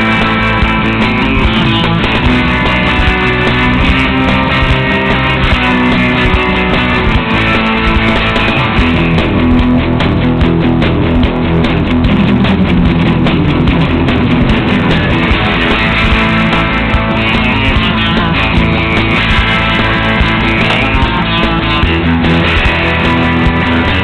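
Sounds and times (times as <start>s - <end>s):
guitar-led background music: 0.0s - 24.0s.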